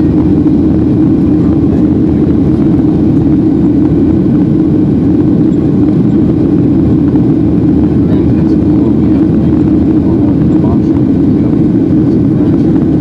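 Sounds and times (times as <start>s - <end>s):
airplane cabin engine hum: 0.0s - 13.0s.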